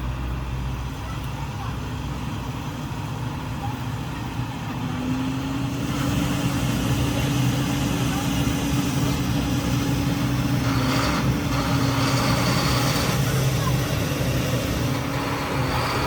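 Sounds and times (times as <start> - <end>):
large vehicle engine humming: 0.0 - 16.0.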